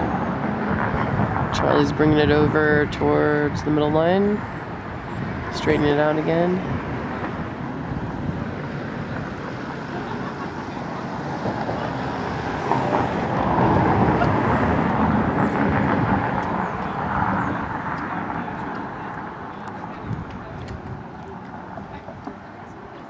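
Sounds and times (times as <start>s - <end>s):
passing vehicle engine and road noise: 0.0s - 23.0s.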